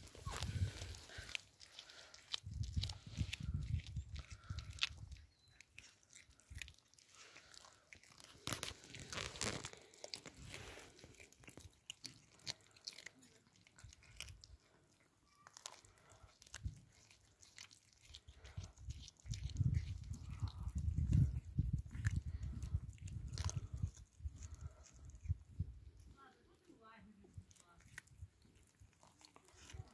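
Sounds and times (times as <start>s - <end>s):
cat chewing fish: 0.0s - 29.9s.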